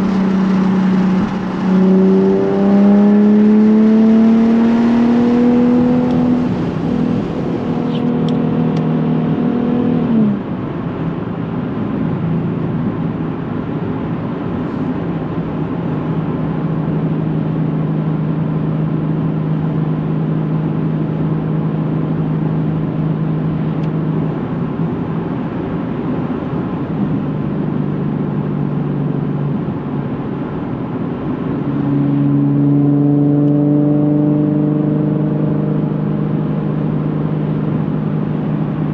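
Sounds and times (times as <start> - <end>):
car engine exhaust driving: 0.0 - 38.9.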